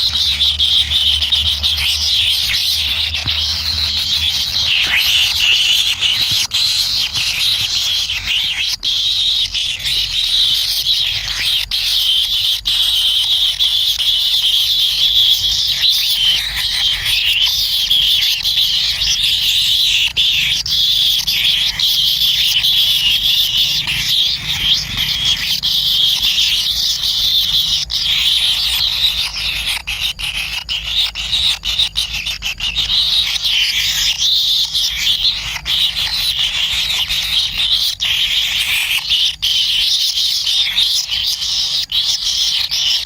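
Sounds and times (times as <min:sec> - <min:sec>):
bird nestlings begging buzzing: 0:00.0 - 0:43.0.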